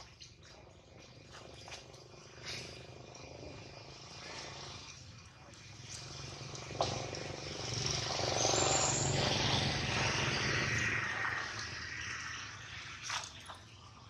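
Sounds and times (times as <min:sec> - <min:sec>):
motor vehicle passing: 0:01.0 - 0:13.0.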